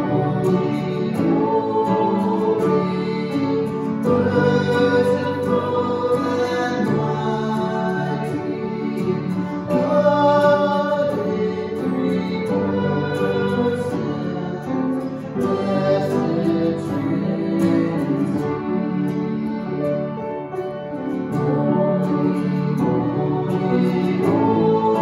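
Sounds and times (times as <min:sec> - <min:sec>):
man and woman singing: 0:00.0 - 0:19.8, 0:21.2 - 0:25.0
strummed acoustic guitar: 0:00.0 - 0:25.0
upright piano: 0:00.0 - 0:25.0.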